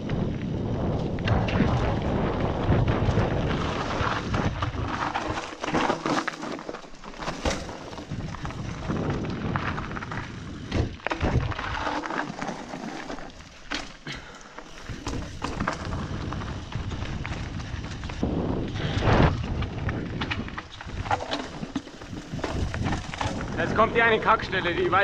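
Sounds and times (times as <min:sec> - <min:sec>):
wind rumble on microphone: 0:00.0 - 0:06.1, 0:07.0 - 0:12.5, 0:14.1 - 0:25.0
bike rattles and knocks: 0:00.0 - 0:25.0.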